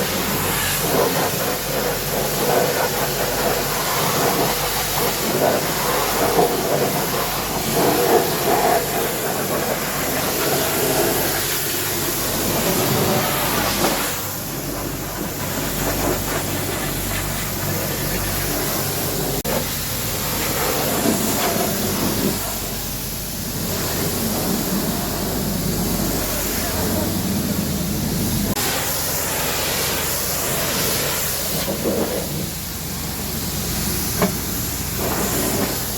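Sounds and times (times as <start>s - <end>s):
pressure washer spraying water: 0.0s - 35.9s.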